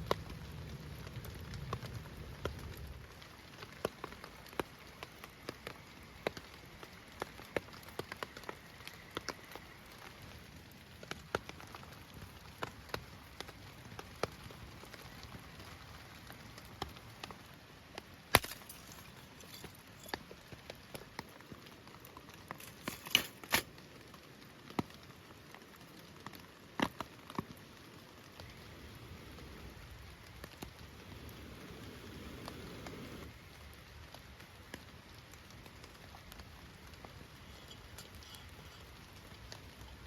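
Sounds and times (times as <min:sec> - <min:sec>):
rain hiss: 0:00.0 - 0:40.0
wood fire crackling and popping: 0:00.0 - 0:40.0.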